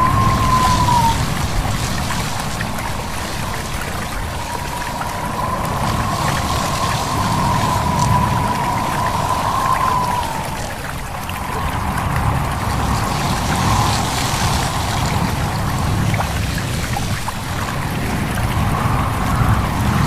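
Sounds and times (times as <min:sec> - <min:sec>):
leaves rustling: 0:00.0 - 0:11.6, 0:12.4 - 0:20.0
small stream babbling: 0:00.0 - 0:18.4
low rumble of wind: 0:00.0 - 0:20.0.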